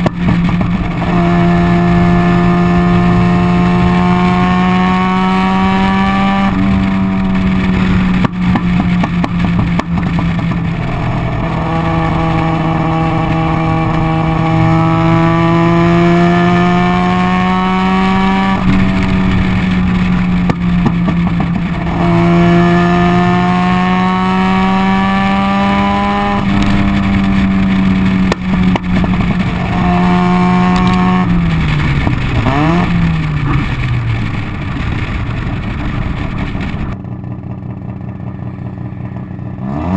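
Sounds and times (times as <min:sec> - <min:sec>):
rotary engine revving: 0:00.0 - 0:37.0
exhaust backfire pops: 0:00.0 - 0:39.4.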